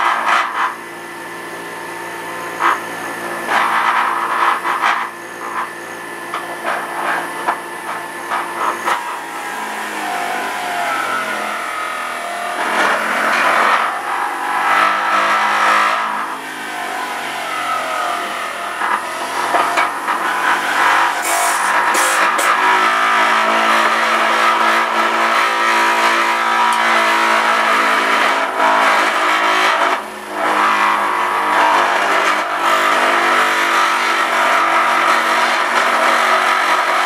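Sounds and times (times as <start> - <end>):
electric juicer motor running: 0.0 - 37.0.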